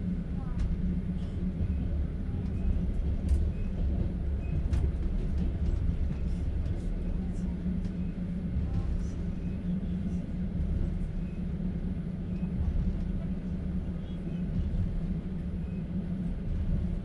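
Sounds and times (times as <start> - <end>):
train carriage rumble on rails: 0.0 - 17.0.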